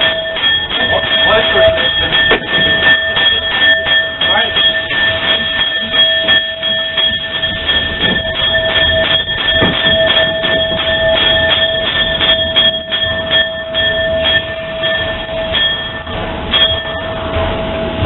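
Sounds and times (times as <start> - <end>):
steady high whine: 0.0 - 18.0.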